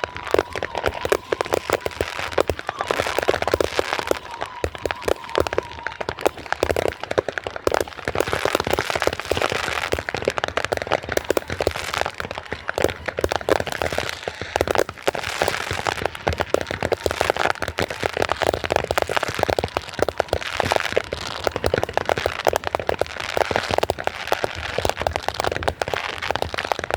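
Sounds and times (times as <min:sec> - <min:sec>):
fireworks and firecrackers crackling: 0:00.0 - 0:26.9.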